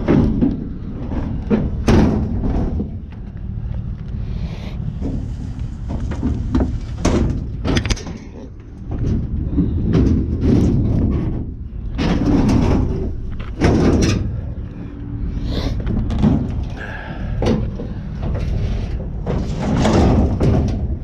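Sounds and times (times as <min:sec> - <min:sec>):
scrap metal clanking and banging: 0:00.0 - 0:03.4, 0:04.8 - 0:21.0
steady low rumble: 0:00.0 - 0:21.0.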